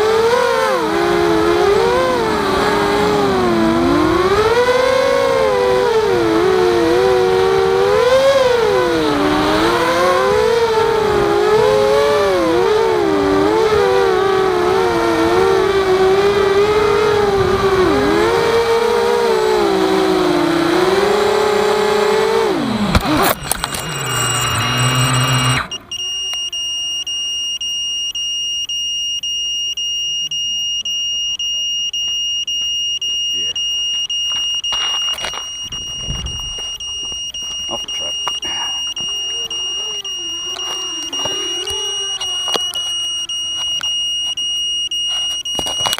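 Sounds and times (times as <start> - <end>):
high beeping: 0.0 - 45.9
quadcopter motors whining: 0.0 - 45.9.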